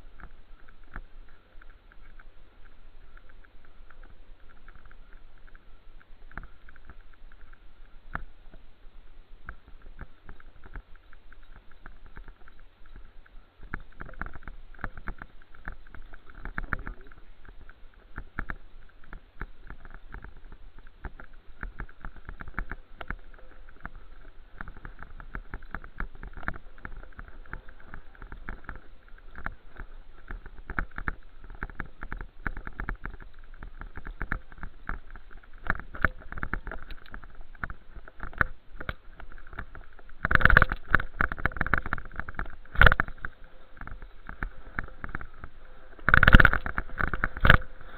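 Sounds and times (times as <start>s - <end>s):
bicycle knocks and rattles: 9.4s - 47.9s.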